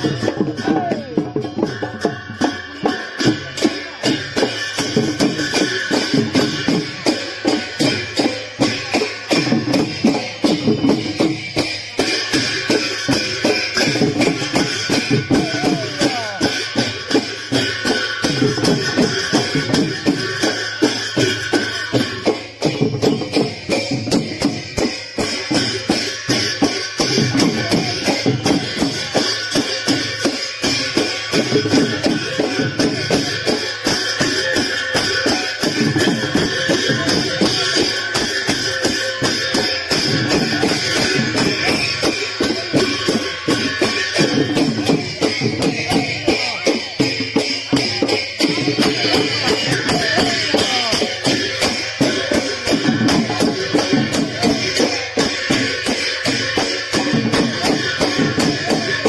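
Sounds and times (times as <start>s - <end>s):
drumming: 0.0s - 59.0s
hand cymbals clashing: 0.0s - 59.0s.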